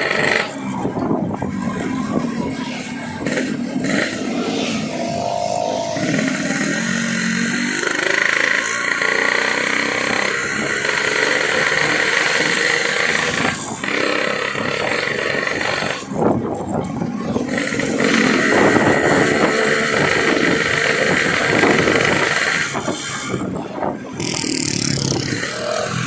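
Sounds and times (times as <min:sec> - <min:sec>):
two-stroke motorcycle engine: 0:00.0 - 0:26.0.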